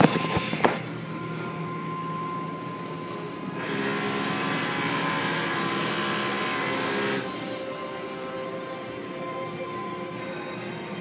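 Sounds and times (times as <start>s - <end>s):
car wash machine running: 0.0s - 11.0s.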